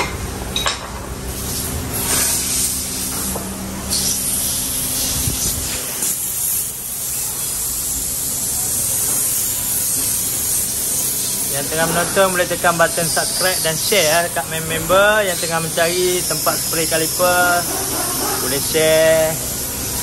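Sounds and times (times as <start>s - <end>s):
spray gun hissing: 1.4s - 20.0s.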